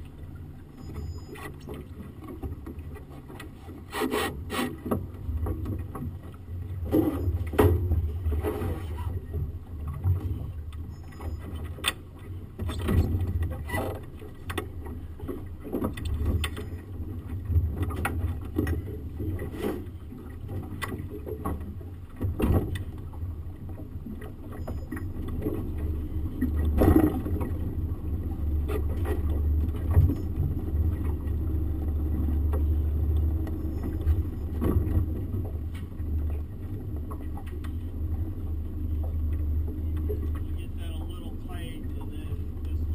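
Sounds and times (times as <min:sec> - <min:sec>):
outboard motor humming: 0:00.0 - 0:42.9.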